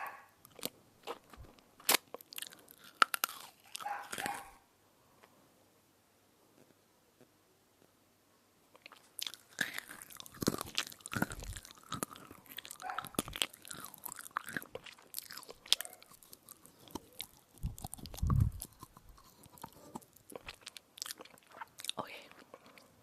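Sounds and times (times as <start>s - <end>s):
chewing crunches: 0.0s - 4.6s, 8.8s - 23.0s.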